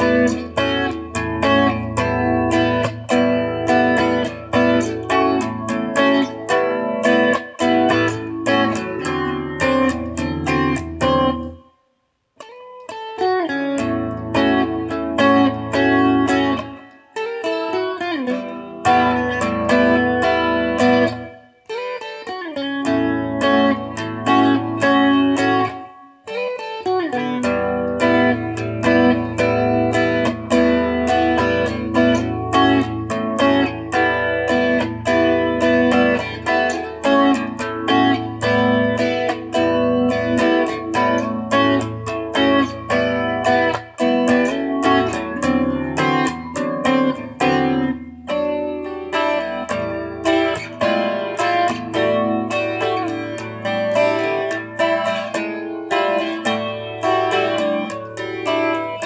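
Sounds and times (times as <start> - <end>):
solo guitar playing: 0.0 - 59.0.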